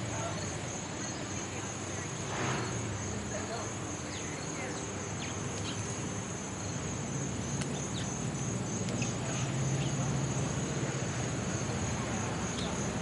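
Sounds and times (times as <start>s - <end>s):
small birds chirping: 0.2s - 10.4s, 11.6s - 13.0s.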